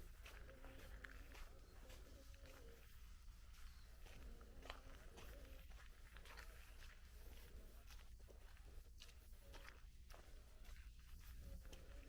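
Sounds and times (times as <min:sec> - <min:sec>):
faint footsteps walking: 0:00.0 - 0:12.0.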